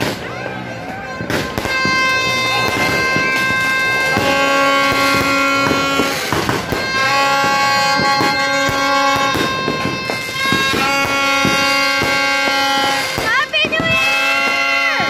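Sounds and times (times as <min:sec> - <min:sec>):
fireworks popping and crackling: 0:00.0 - 0:15.0
horn sounding long blasts: 0:00.0 - 0:15.0.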